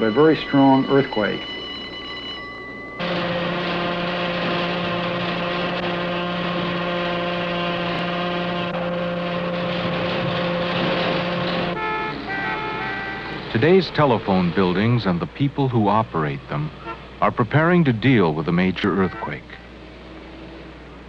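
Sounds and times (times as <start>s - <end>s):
low horn-like warning tone: 0.0s - 15.2s, 16.2s - 17.3s, 18.4s - 19.8s
shorter higher tones: 0.0s - 19.8s.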